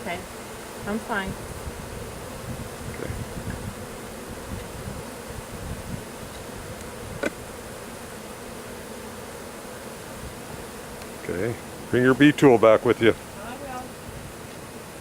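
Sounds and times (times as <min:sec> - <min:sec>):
bee buzz sweeping in pitch: 0:00.0 - 0:15.0
honeybees buzzing: 0:00.0 - 0:15.0.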